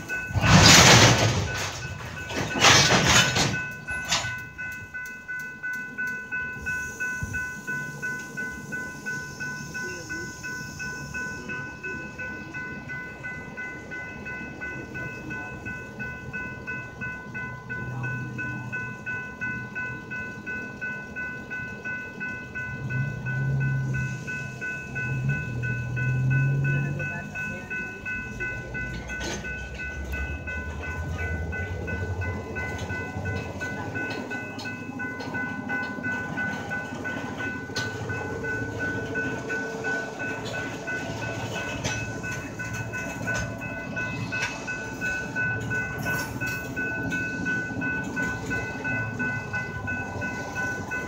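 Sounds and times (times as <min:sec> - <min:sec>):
freight train rolling past: 0:00.0 - 0:51.0
railroad crossing bell dinging: 0:00.0 - 0:51.0.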